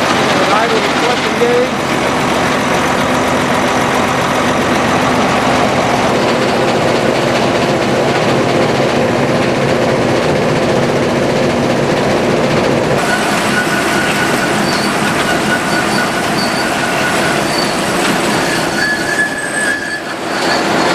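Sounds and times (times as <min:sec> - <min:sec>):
grinder machinery din: 0:00.0 - 0:20.9.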